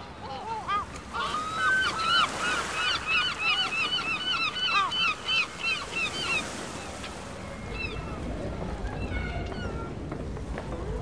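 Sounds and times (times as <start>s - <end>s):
gulls calling: 0.0s - 10.0s.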